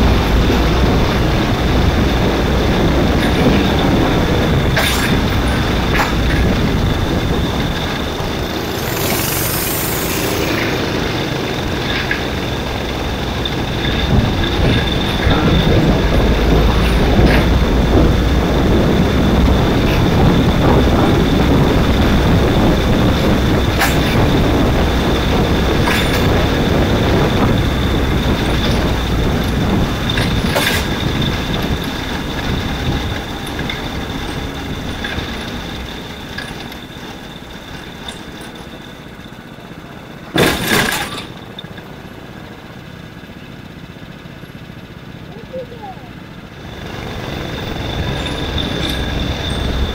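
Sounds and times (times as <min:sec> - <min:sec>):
racing kart engine: 0:00.0 - 0:49.9.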